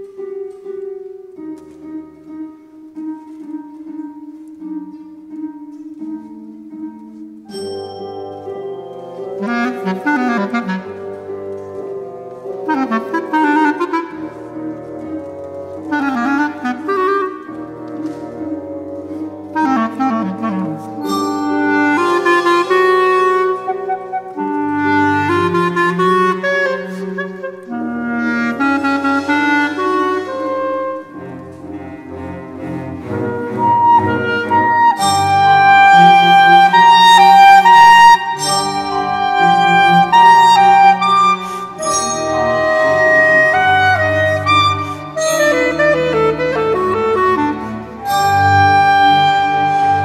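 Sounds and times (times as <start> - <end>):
orchestra strings low notes: 0.0 - 50.0
solo clarinet phrases: 8.4 - 32.2, 33.0 - 50.0.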